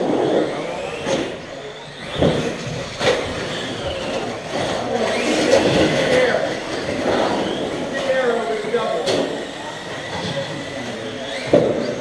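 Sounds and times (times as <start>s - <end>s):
toy car motors whining: 0.0s - 12.0s
toy cars clacking on track: 0.0s - 12.0s.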